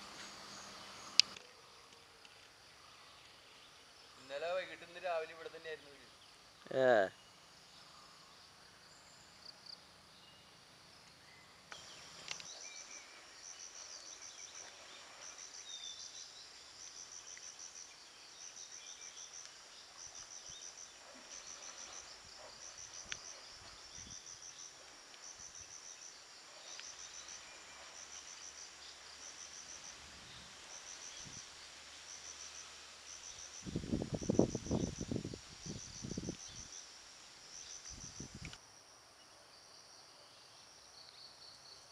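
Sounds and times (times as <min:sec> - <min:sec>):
insect chirping in trills: 0:00.0 - 0:41.9.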